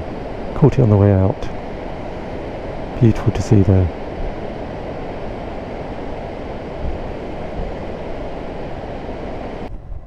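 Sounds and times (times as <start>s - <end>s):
motorcycle road noise: 0.0s - 9.7s
rushing wind: 0.0s - 10.0s.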